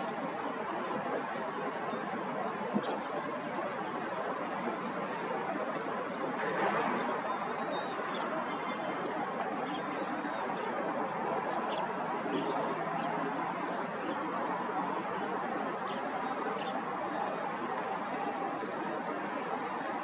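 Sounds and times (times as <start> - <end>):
dense background noise: 0.0 - 20.0.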